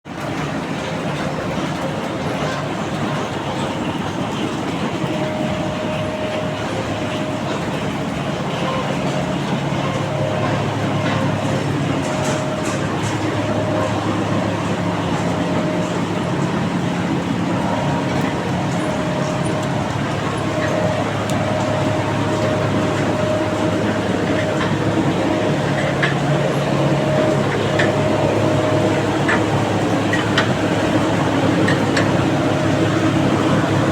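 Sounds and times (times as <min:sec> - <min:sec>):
heavy machinery running: 0:00.1 - 0:33.9.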